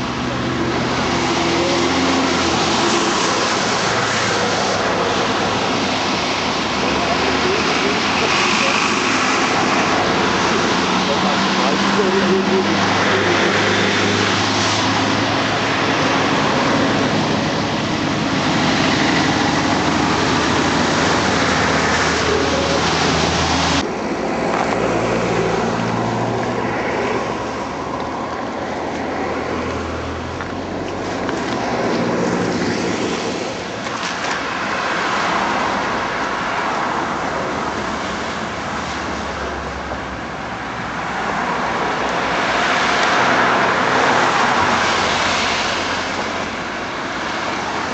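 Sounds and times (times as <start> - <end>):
traffic hiss: 0.0 - 39.8
rumble of passing cars: 0.0 - 47.9.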